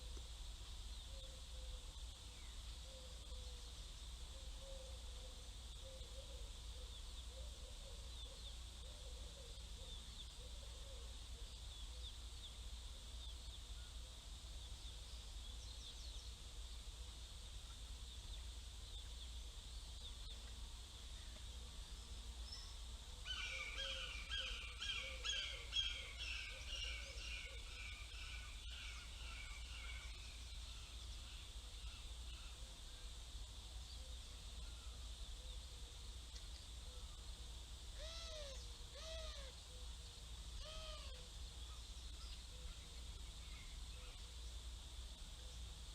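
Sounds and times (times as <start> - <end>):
low background hum: 0.0 - 45.9.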